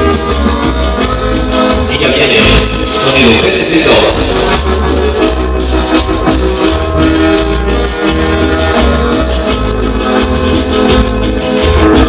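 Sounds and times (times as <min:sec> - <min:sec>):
cumbia music over sound system: 0:00.0 - 0:12.0.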